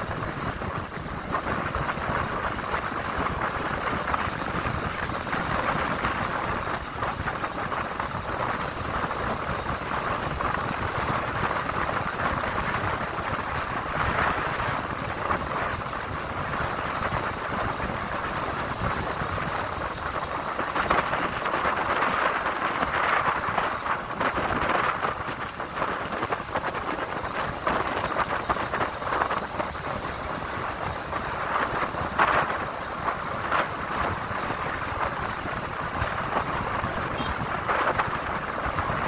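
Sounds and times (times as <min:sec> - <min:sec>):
vehicle road noise: 0:00.0 - 0:39.0
wind buffeting microphone: 0:00.0 - 0:39.0.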